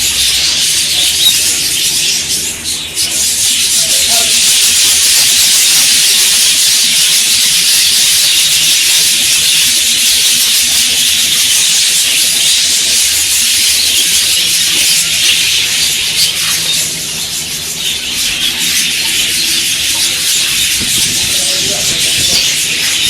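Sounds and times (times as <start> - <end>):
flock of budgerigars chattering: 0.0 - 23.0.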